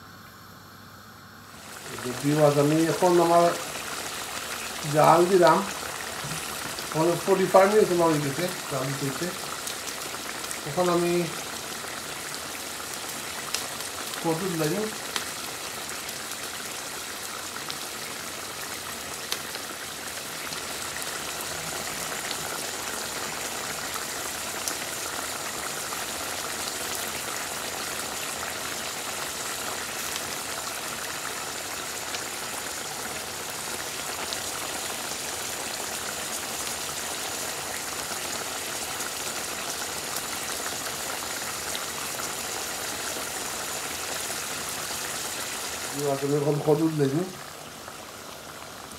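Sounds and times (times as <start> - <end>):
curry bubbling in a wok: 1.6 - 48.9.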